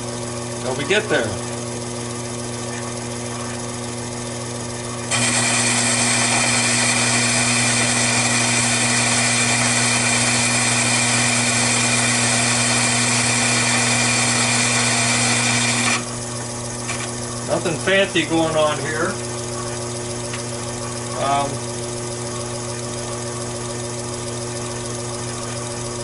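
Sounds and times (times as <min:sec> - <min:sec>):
lathe motor humming: 0:00.0 - 0:26.0
lathe tool bit cutting metal: 0:05.0 - 0:26.0.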